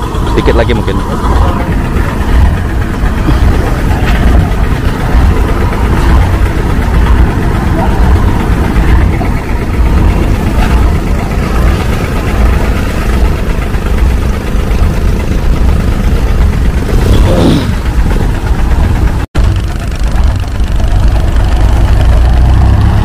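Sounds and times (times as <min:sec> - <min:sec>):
boat diesel engine idling: 0:00.0 - 0:23.0.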